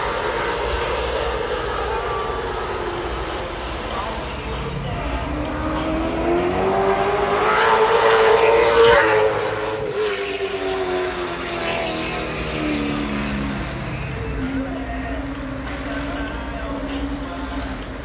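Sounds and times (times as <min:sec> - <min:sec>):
race car passing: 0:00.0 - 0:18.0.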